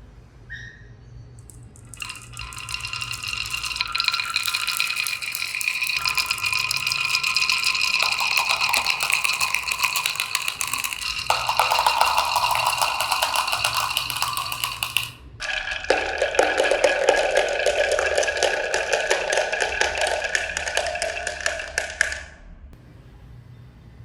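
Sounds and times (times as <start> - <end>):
glass marbles rattling down a run: 1.4 - 22.3.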